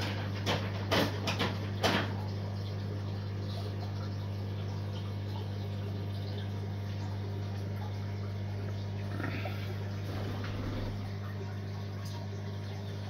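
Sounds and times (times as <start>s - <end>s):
pump low hum: 0.0s - 13.0s
water trickling: 1.4s - 13.0s.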